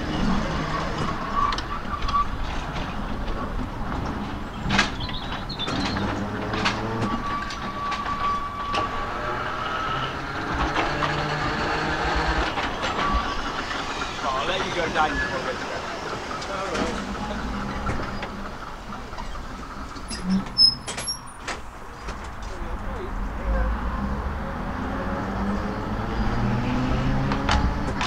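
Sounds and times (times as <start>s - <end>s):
tramcar rumble and hiss: 0.0s - 28.0s.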